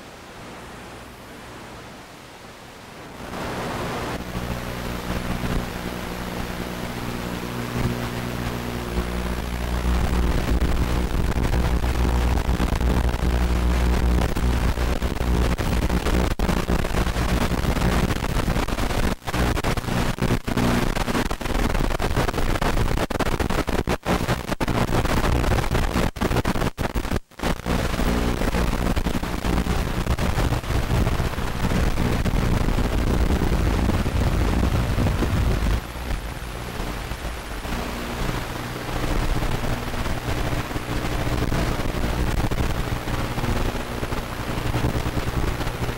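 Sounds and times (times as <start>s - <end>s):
loud static hiss: 0.0s - 45.9s
steady low buzz: 3.4s - 22.8s, 27.4s - 45.9s.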